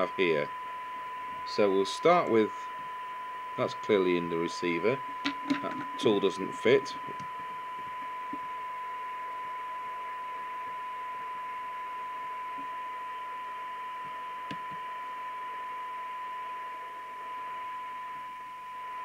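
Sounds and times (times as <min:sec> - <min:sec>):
radio test tone: 0:00.0 - 0:19.0
receiver hiss: 0:00.0 - 0:19.0.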